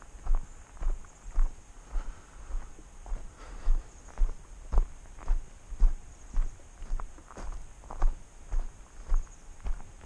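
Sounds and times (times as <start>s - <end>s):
footsteps on gravel: 0.0s - 10.0s.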